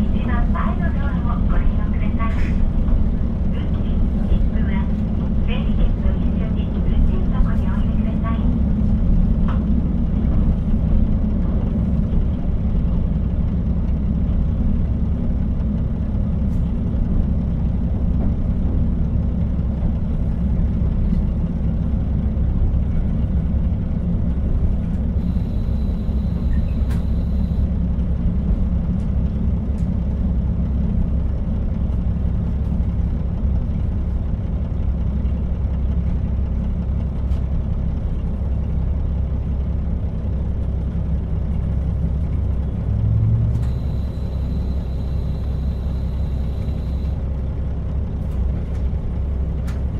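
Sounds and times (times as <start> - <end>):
railcar engine and wheels rumbling: 0.0 - 49.9.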